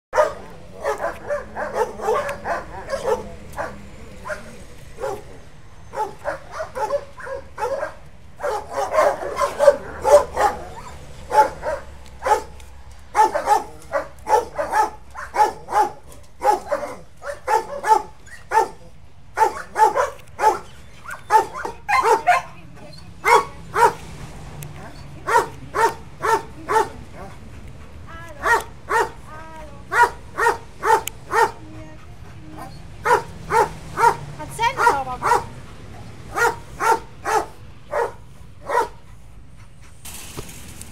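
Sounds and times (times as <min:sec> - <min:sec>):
dog barking: 0:00.2 - 0:22.6, 0:23.2 - 0:24.1, 0:24.8 - 0:27.4, 0:28.4 - 0:29.2, 0:29.9 - 0:31.6, 0:32.5 - 0:35.6, 0:36.3 - 0:39.0.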